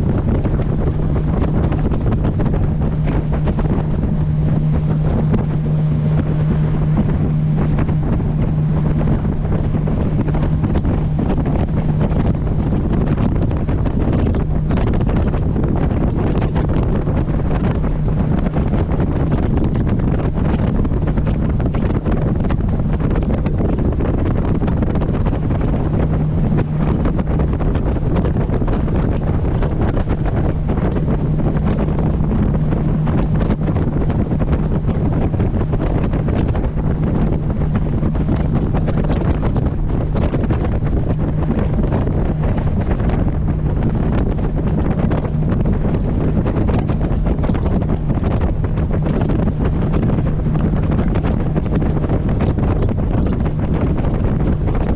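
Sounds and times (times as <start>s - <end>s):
boat engine drone: 0.0s - 54.9s
water rushing along hull: 0.0s - 54.9s
wind buffeting microphone: 0.0s - 54.9s.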